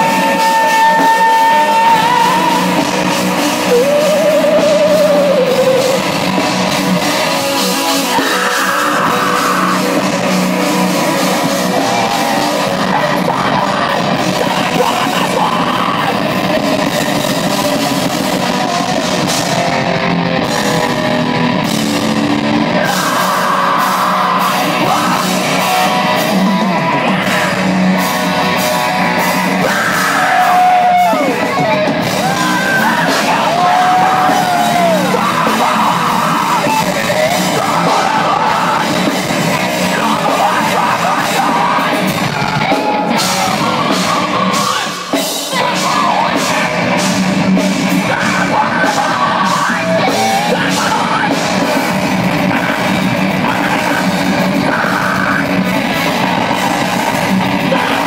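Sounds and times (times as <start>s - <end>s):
live heavy metal band: 0.0s - 58.0s
yelled vocals: 0.0s - 58.0s.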